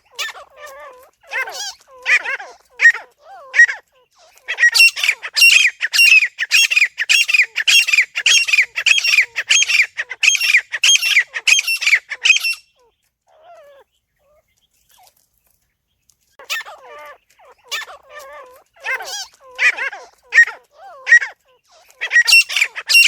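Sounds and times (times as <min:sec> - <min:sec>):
francolin calling: 0:00.0 - 0:14.7, 0:16.4 - 0:23.0.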